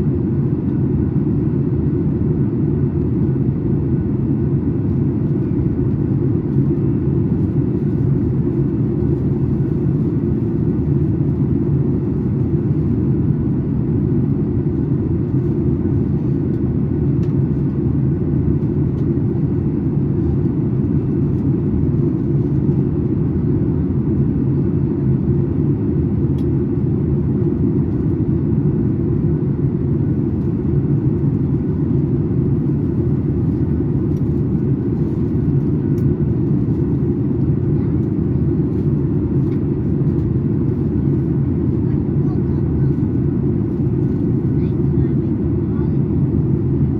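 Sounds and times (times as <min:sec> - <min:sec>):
airplane cabin rumble: 0:00.0 - 0:46.9.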